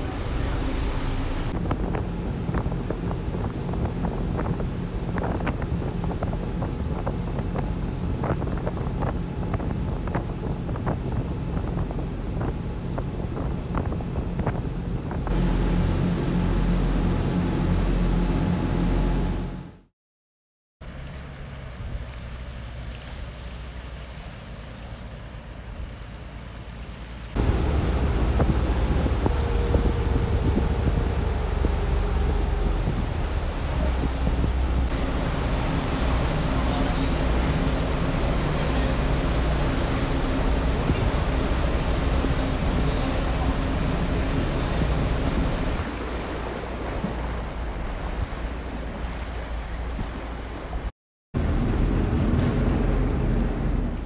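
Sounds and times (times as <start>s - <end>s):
wind on microphone: 0.0s - 19.6s, 27.4s - 54.0s
motorboat engine rumble: 0.0s - 19.9s, 20.8s - 54.0s
rushing water: 0.0s - 19.9s, 20.8s - 54.0s.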